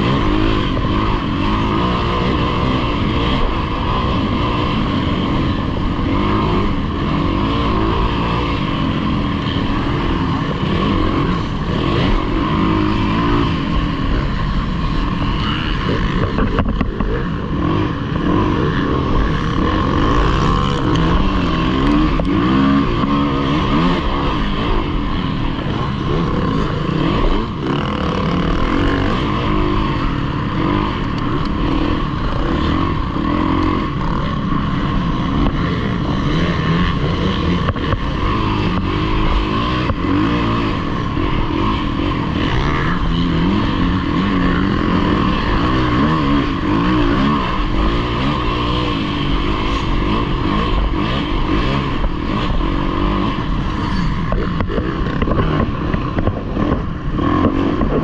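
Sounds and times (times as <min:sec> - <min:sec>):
dirt bike engine revving: 0:00.0 - 0:58.0
other dirt bikes running: 0:00.0 - 0:58.0.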